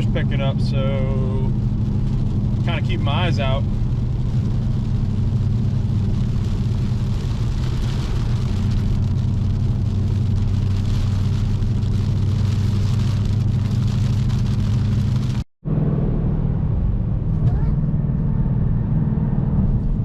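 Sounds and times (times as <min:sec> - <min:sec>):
car engine cruising drone: 0:00.0 - 0:20.0
road noise: 0:00.0 - 0:20.0.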